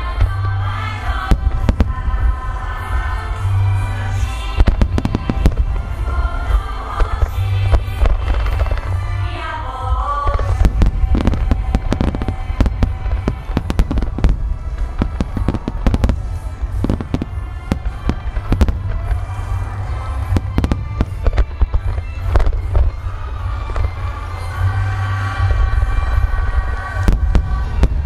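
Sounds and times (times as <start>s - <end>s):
fireworks bursting with bangs: 0.0s - 28.0s
music playing: 0.0s - 28.0s.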